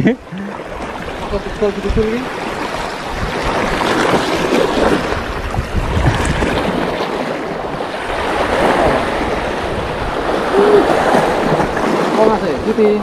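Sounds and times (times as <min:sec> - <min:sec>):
waves breaking on rocky shore: 0:00.0 - 0:13.0
wind rumbling on microphone: 0:00.0 - 0:13.0.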